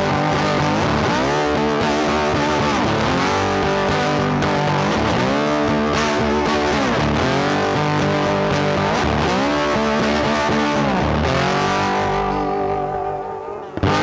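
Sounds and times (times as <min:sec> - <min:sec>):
rock music with distorted guitar: 0:00.0 - 0:14.0.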